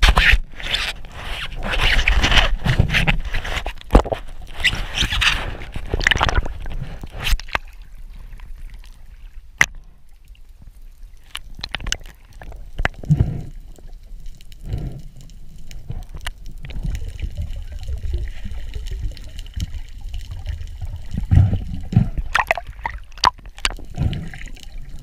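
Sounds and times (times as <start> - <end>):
water sloshing and splashing: 0.0 - 14.4, 15.6 - 25.0.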